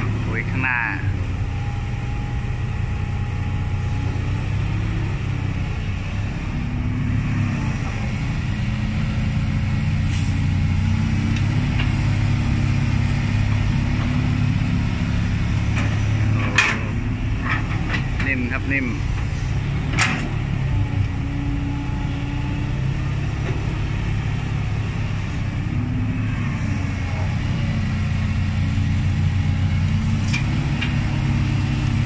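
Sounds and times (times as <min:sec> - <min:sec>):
heavy diesel engines running: 0:00.0 - 0:32.0.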